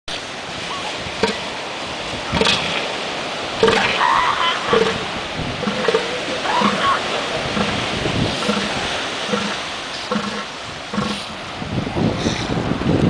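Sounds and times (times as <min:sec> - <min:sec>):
ocean surf: 0:00.1 - 0:13.0
wind noise: 0:00.1 - 0:13.0.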